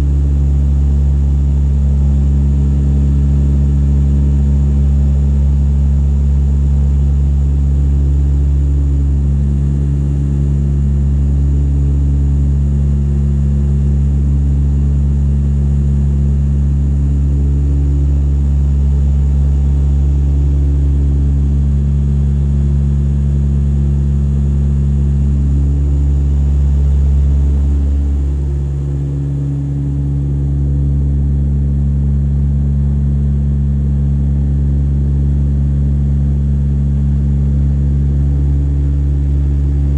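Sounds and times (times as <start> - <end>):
throbbing propeller hum: 0.0 - 39.9.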